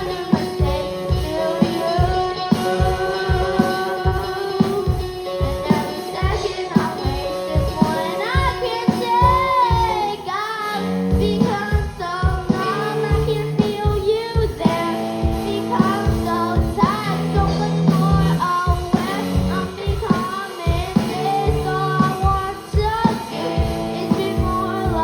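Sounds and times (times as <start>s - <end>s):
child singing: 0.0s - 25.0s
drum beat: 0.0s - 25.0s
electric guitar: 0.0s - 25.0s.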